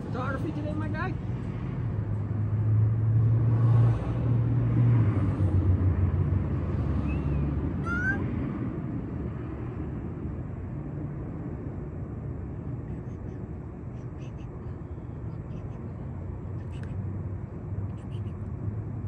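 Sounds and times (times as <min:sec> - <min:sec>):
motor vehicle rumble: 0:00.0 - 0:19.0
traffic rumble: 0:00.0 - 0:19.0.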